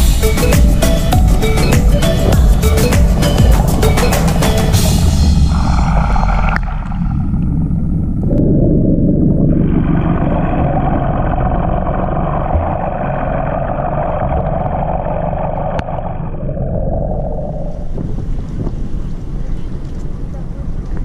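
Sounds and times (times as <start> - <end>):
boat engine droning underwater: 0.0 - 21.0.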